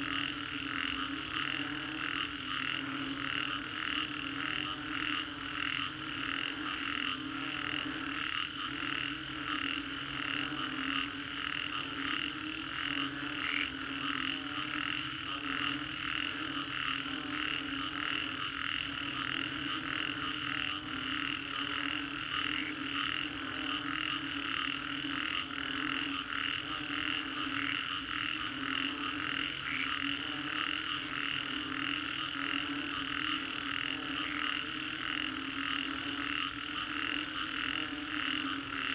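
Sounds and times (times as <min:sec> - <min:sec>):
high-pitched frog calls: 0:00.0 - 0:38.9
low frog croaking: 0:00.0 - 0:38.9.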